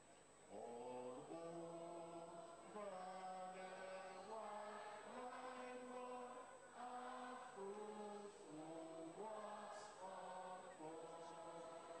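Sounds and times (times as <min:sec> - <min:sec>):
crowd singing along: 0:00.0 - 0:12.0
person singing into microphone: 0:00.0 - 0:12.0.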